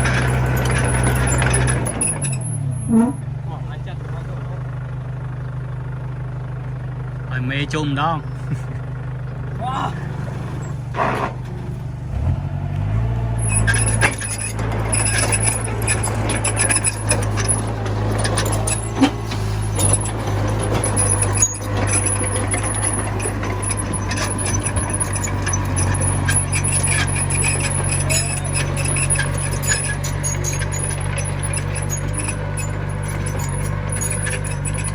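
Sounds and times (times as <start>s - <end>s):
metal clanks and rattles: 0.0s - 3.1s, 8.3s - 34.9s
bulldozer diesel engine under load: 0.0s - 34.9s.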